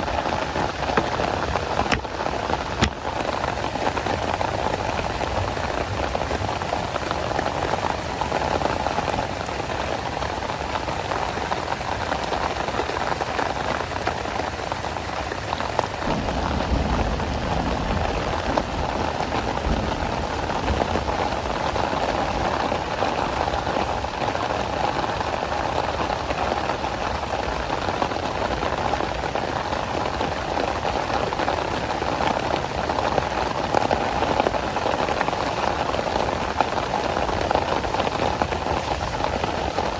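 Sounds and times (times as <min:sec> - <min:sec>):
rain pattering on surface: 0:00.0 - 0:39.9.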